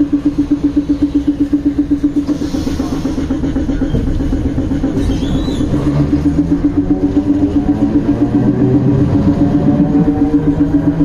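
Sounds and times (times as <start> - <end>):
motor whine rising in pitch: 0.0 - 11.0
streetcar pulsing hum: 0.0 - 11.0.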